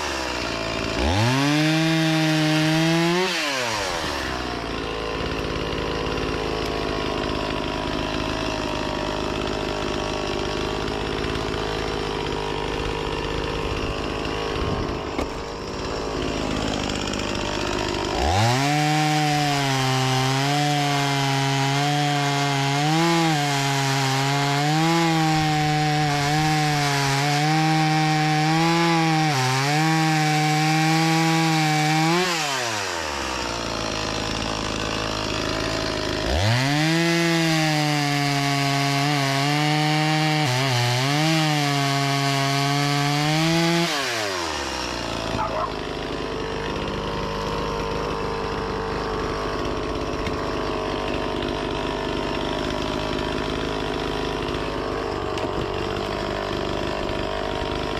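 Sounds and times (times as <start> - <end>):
chainsaw engine revving and idling: 0.0 - 57.9.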